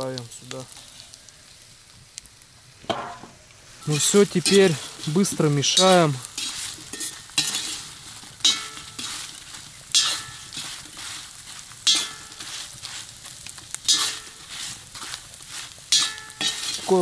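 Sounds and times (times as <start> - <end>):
food sizzling in pan: 0.0 - 17.0
utensil scraping pan: 2.9 - 17.0.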